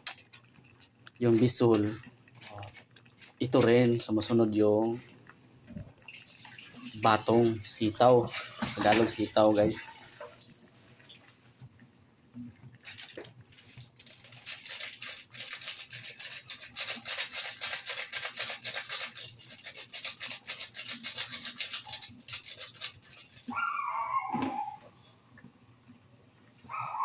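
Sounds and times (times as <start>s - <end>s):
broth boiling with popping bubbles: 0.0s - 27.0s.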